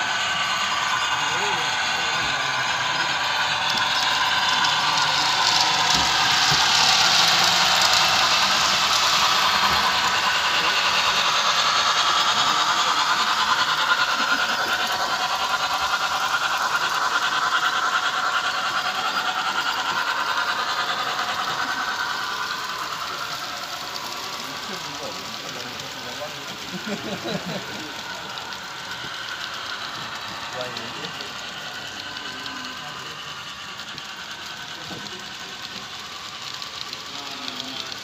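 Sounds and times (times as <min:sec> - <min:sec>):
model train whirring rattle: 0:00.0 - 0:38.0.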